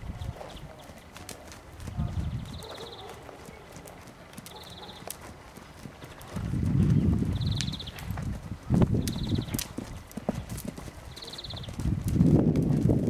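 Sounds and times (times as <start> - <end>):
pony hoofbeats trotting on sand: 0.0 - 13.0.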